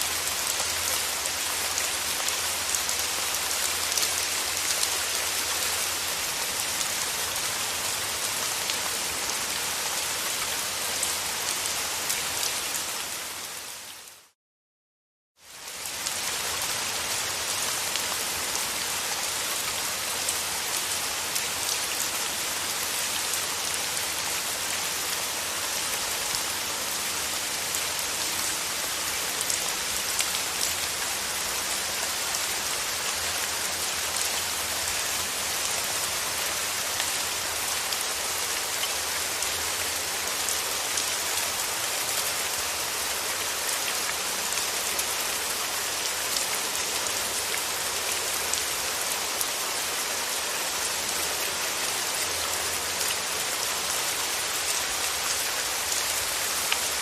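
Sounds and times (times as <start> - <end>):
steady rain falling: 0.0 - 14.4, 15.4 - 57.0.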